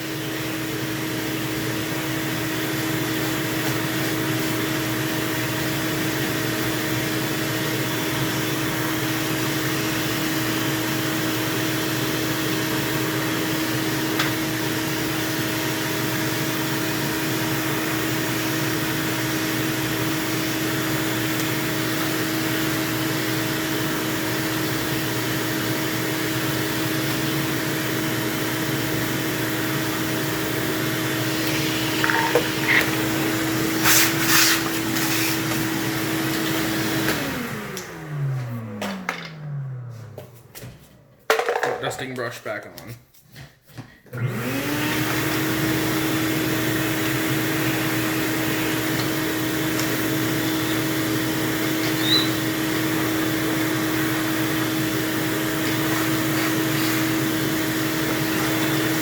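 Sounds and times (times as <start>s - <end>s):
vacuum cleaner running: 0.0s - 41.4s, 44.1s - 59.0s.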